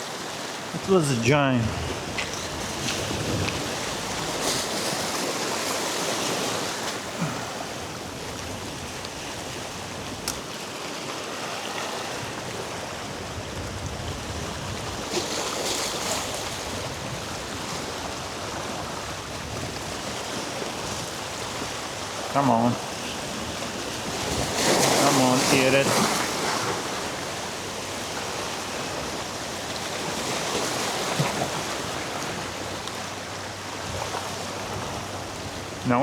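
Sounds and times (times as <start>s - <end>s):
surf washing against rocks: 0.0s - 36.0s.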